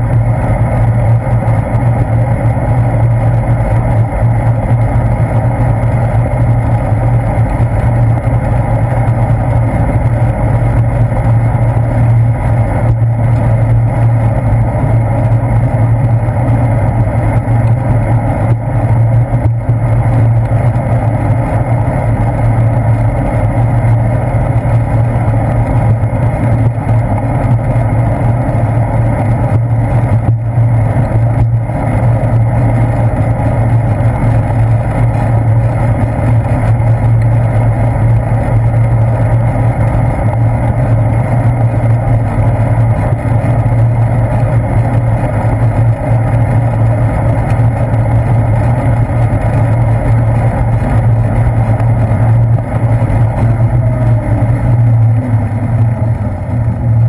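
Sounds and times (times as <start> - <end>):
low drone: 0.0 - 57.0
road vibration rumble: 0.0 - 57.0.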